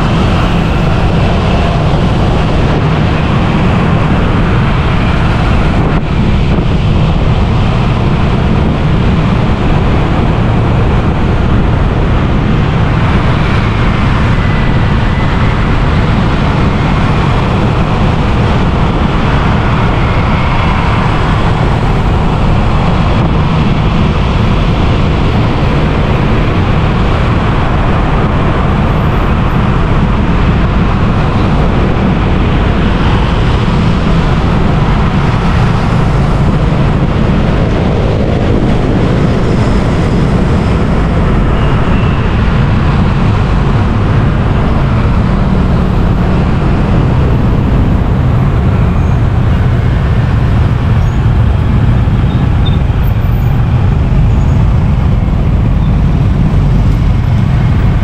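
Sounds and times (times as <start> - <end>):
road traffic noise: 0.0 - 58.0
wind rumble on microphone: 0.0 - 58.0.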